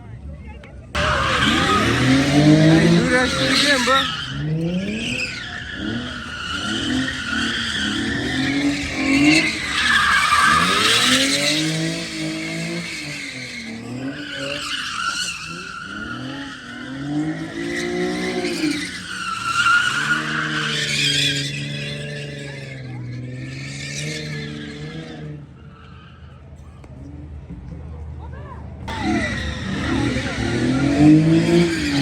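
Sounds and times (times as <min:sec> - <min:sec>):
tyres squealing and skidding: 0:00.9 - 0:27.0, 0:28.8 - 0:32.0
car engine revving: 0:01.0 - 0:25.7, 0:28.8 - 0:32.0.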